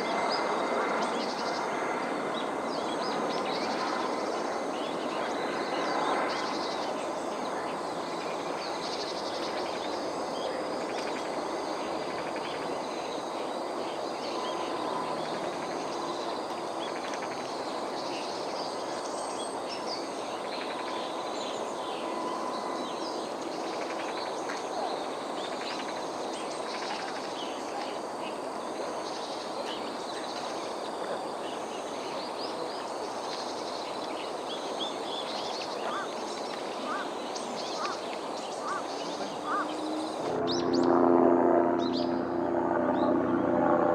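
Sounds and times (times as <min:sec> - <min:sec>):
steady background hiss: 0:00.0 - 0:43.8.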